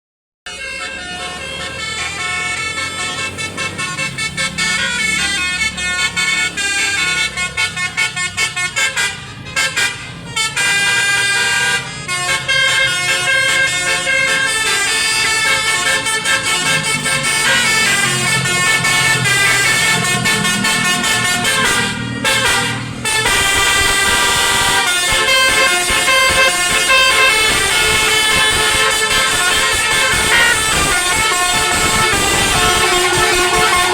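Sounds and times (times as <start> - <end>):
bus engines running: 0.5 - 33.9
musical air horns playing melodies: 0.5 - 33.9.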